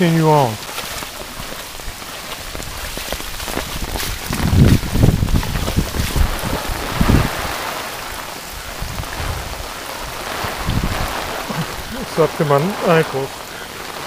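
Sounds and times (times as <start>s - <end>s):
heavy rain hissing: 0.0s - 14.0s
low rumbles: 0.5s - 14.0s.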